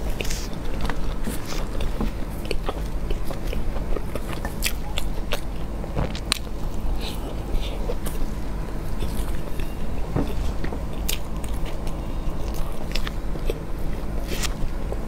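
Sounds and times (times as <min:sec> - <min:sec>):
chewing and biting: 0:00.0 - 0:15.0
steady low hum: 0:00.0 - 0:15.0.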